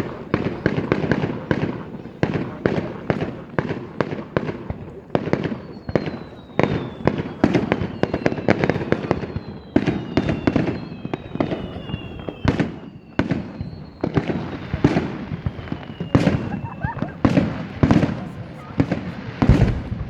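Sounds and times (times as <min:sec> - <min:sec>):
falling firework whistle: 0:00.0 - 0:20.0
firework bursts and crackling: 0:00.0 - 0:20.0
rumble of firework booms: 0:00.0 - 0:20.0.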